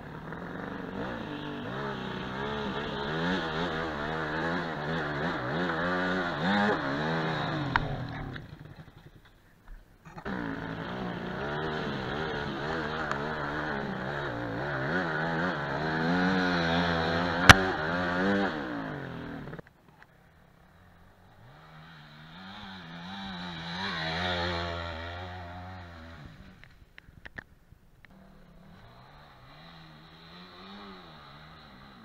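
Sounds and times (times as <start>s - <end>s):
dirt bike engine revving: 0.0s - 9.2s, 10.1s - 19.6s, 21.2s - 26.6s, 28.1s - 32.0s.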